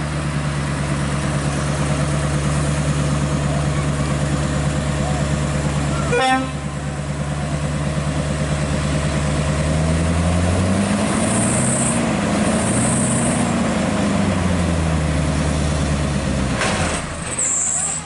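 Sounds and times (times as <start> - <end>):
truck diesel engine revving: 0.0 - 18.0.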